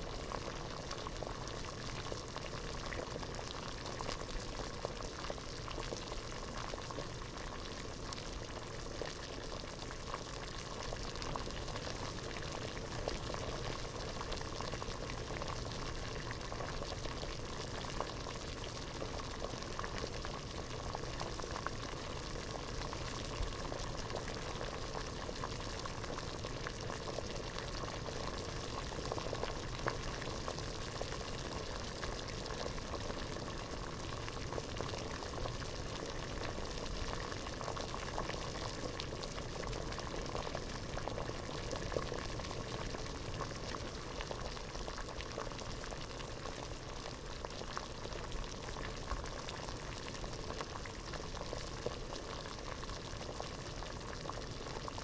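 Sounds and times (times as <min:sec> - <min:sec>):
water boiling in a pot: 0:00.0 - 0:55.0.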